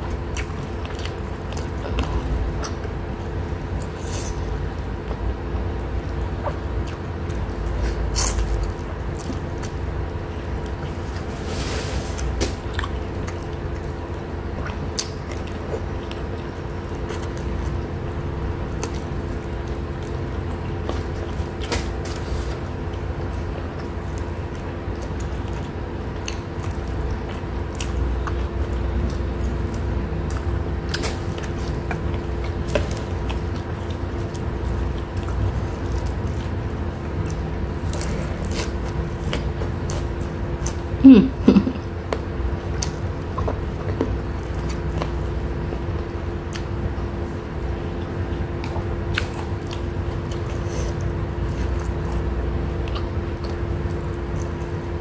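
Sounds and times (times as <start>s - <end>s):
background hum: 0.0s - 55.0s
chewing and mouth sounds: 0.0s - 55.0s.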